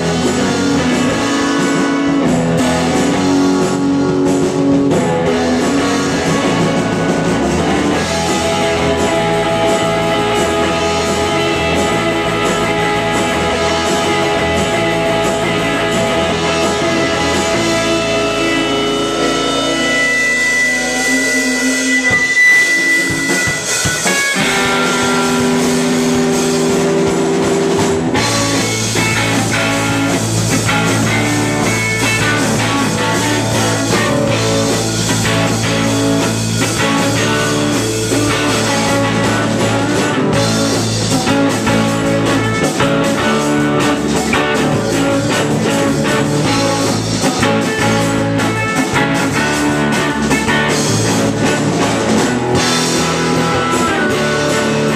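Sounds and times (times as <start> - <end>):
rock band playing: 0.0 - 54.9
sustained electric guitar notes: 0.0 - 54.9.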